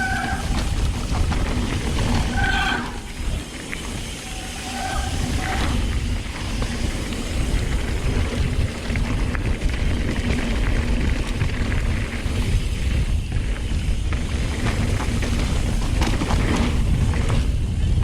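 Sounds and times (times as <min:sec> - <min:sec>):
bike rattles and clicks: 0:00.0 - 0:18.0
wind rushing over microphone: 0:00.0 - 0:18.0.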